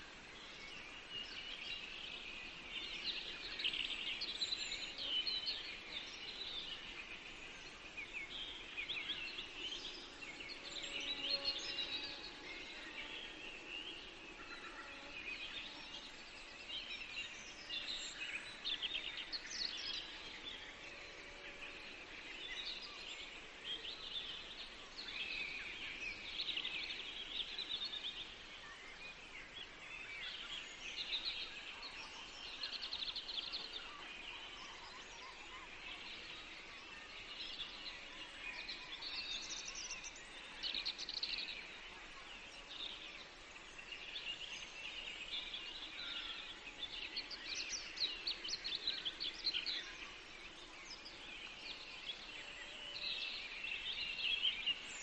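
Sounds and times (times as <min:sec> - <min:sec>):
faint steady hiss: 0:00.0 - 0:55.0
songbirds singing and chirping: 0:00.0 - 0:55.0.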